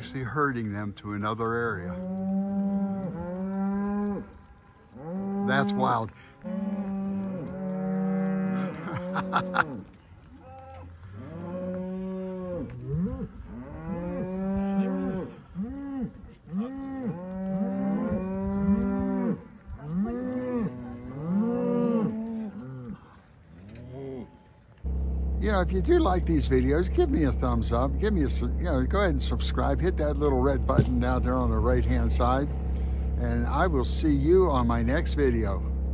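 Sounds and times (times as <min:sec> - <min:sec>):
cattle mooing: 0:01.5 - 0:24.6, 0:25.4 - 0:35.7.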